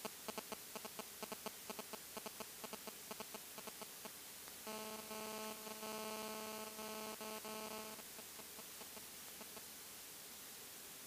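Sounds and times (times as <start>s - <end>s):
faint electronic buzzing tone: 0.0s - 11.0s.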